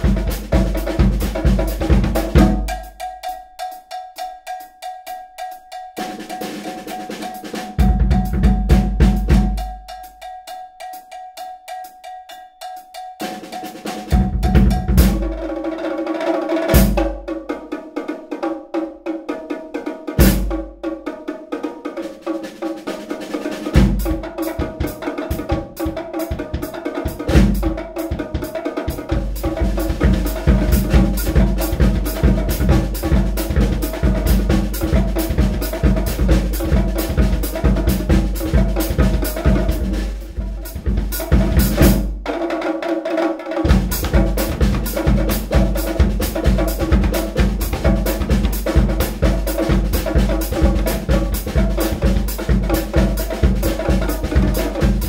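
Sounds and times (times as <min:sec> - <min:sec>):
group of drummers playing: 0:00.0 - 0:55.0.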